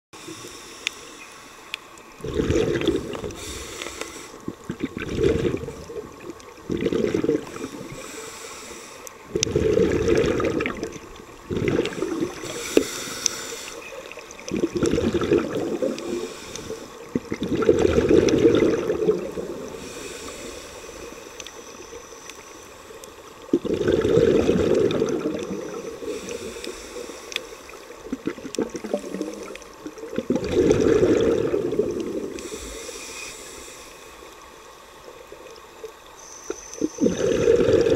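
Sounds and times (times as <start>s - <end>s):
diver breathing underwater: 0.2s - 6.0s, 6.7s - 10.9s, 11.5s - 34.4s, 36.8s - 37.9s
underwater regulator bubbles: 2.1s - 22.4s, 23.0s - 33.8s, 35.4s - 37.9s.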